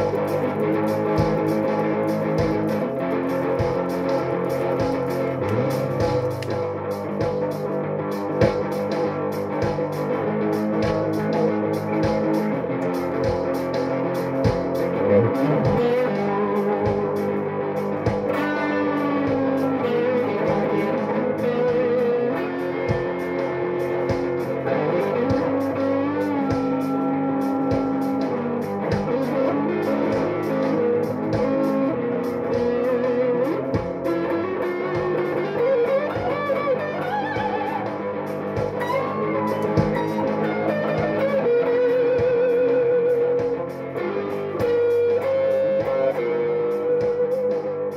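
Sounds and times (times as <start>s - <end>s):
bluesy electric guitar lead: 0.0s - 47.9s
steady beat: 0.0s - 47.9s.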